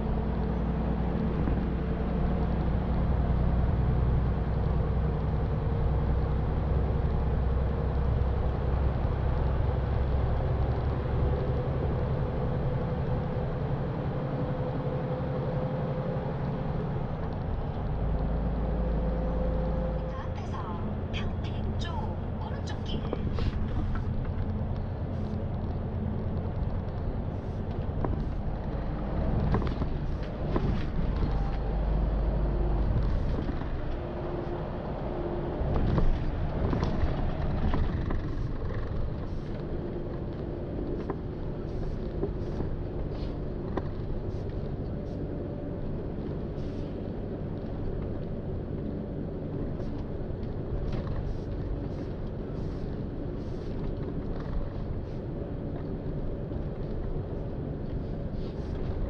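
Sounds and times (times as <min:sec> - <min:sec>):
deep low rumble: 0:00.0 - 0:59.0
diesel engine drone: 0:00.0 - 0:59.0
tyre and road noise: 0:00.0 - 0:59.0.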